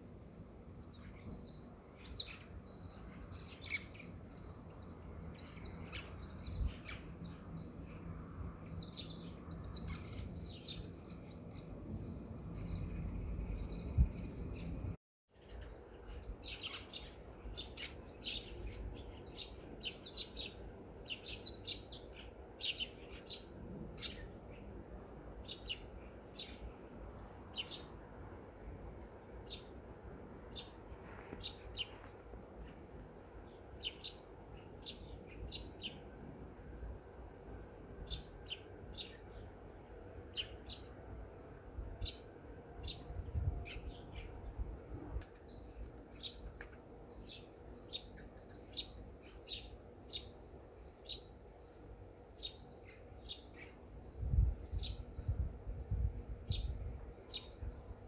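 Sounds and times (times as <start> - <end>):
faint low outdoor rumble: 0.0 - 58.0
small birds chirping: 0.6 - 58.0.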